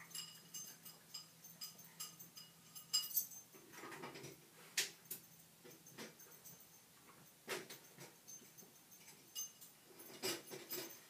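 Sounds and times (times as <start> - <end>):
collar tags jingling: 0.0 - 3.8, 5.0 - 11.0.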